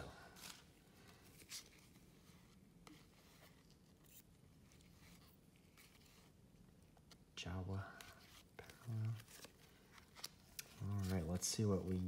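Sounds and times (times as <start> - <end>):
trading cards rustling and clicking: 0.0 - 12.0.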